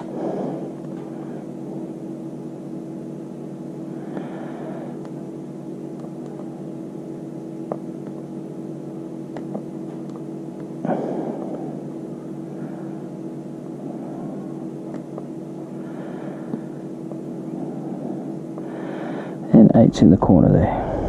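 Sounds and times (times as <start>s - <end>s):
motor-like hum: 0.0s - 21.0s.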